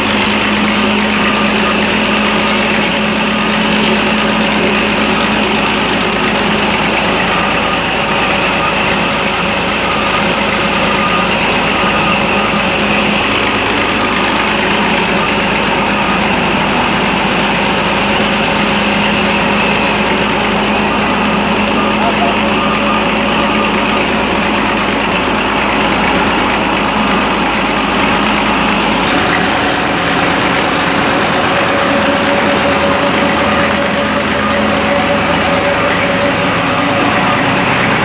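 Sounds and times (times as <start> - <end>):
cotton ginning machine drone: 0.0 - 38.0.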